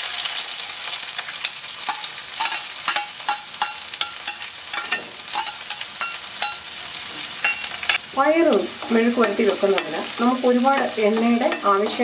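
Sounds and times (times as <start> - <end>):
shallots sizzling in oil: 0.0 - 12.0.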